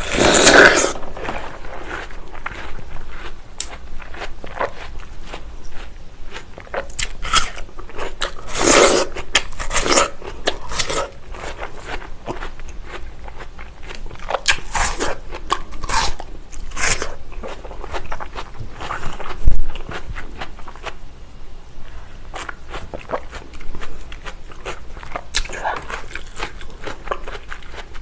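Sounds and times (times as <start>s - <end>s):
chewing watermelon: 0.0s - 21.0s, 22.3s - 28.0s.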